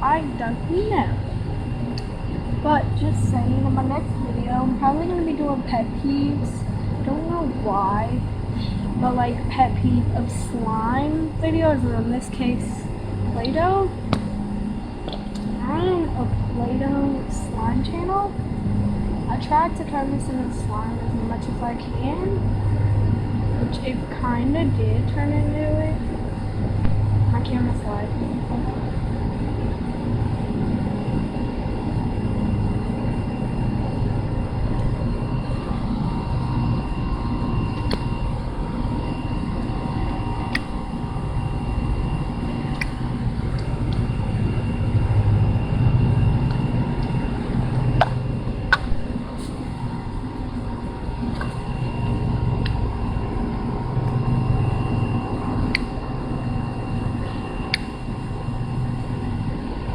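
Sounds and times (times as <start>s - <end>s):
low mechanical drone: 0.0s - 59.9s.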